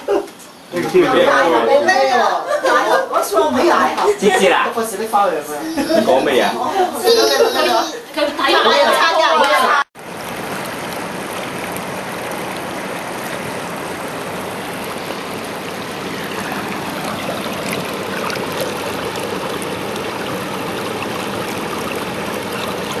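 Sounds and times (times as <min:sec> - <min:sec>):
running water rushing: 0:03.4 - 0:23.0.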